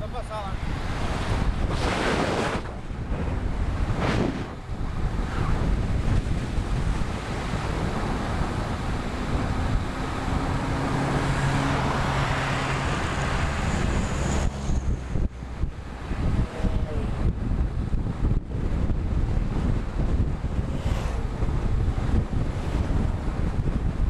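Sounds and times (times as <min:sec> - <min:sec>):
motor vehicle engine hum: 0:00.0 - 0:24.0
wind buffeting microphone: 0:00.0 - 0:24.0.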